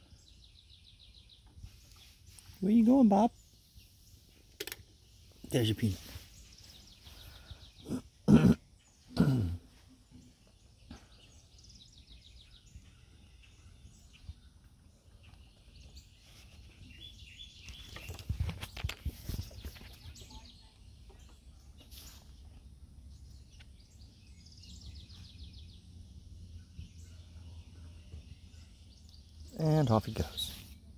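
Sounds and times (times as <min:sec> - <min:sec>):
birdsong: 0:00.0 - 0:30.9.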